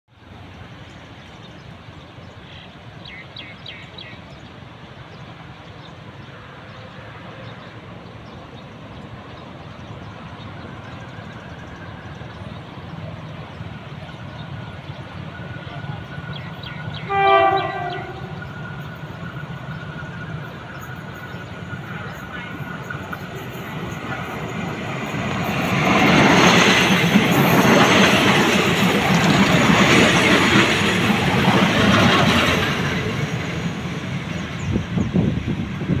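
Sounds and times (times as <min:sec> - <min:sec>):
distant train rumble: 0:00.2 - 0:36.0.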